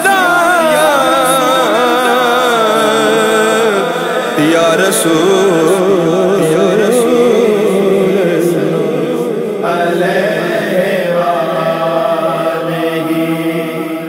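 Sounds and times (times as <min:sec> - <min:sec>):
hummed vocal drone: 0:00.0 - 0:14.0
man singing long wavering note: 0:00.0 - 0:14.0.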